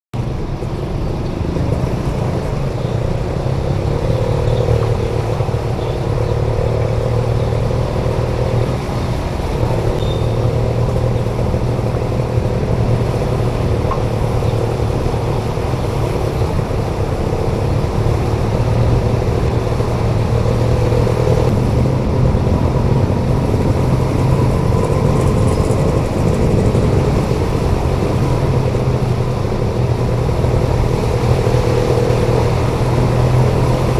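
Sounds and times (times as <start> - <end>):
car engines running: 0.1 - 33.9
motorcycle engines running: 0.2 - 33.9
vehicles pushing through water: 0.2 - 33.9.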